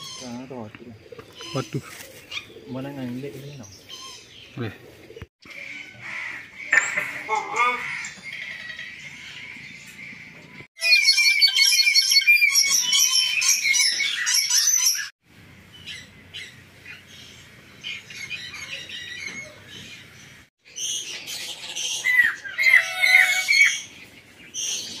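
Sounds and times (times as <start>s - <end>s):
birds chirping and squawking: 0.0s - 25.0s.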